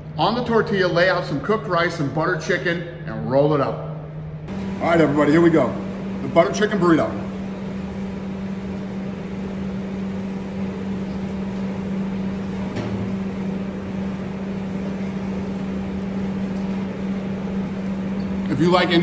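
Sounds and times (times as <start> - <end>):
kitchen equipment hum and fan: 0.0 - 19.0.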